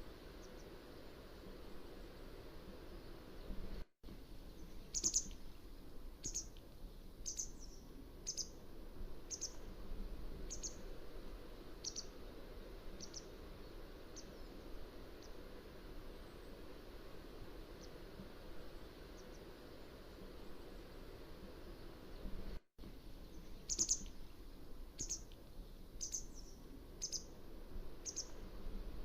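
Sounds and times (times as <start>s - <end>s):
steady background hiss: 0.0s - 29.0s.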